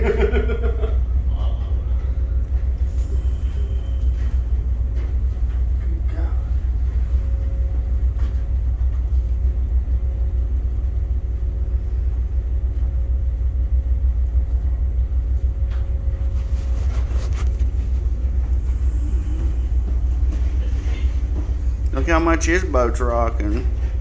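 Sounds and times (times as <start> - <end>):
boat diesel engines rumbling: 0.0 - 24.0
faint steady hum: 0.0 - 24.0.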